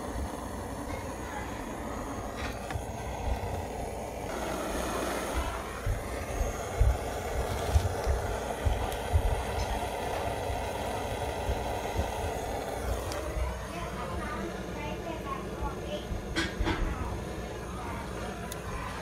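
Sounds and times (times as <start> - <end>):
fan blowing air into fire: 0.0 - 19.0
low rumbles of fire: 0.0 - 19.0.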